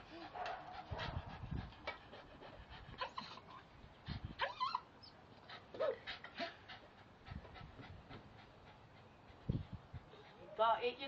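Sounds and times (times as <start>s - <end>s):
dog panting: 0.0s - 4.4s, 5.3s - 11.0s.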